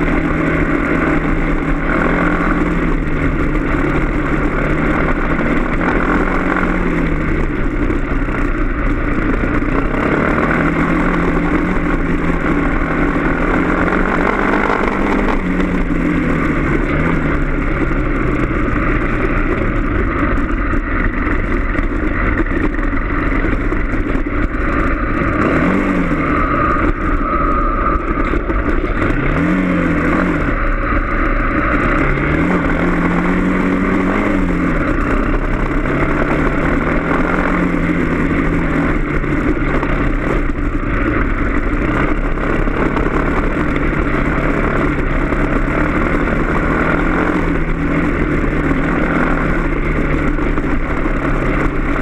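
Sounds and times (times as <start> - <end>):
motorcycle engine revving: 0.0 - 52.0
wind noise: 0.0 - 52.0.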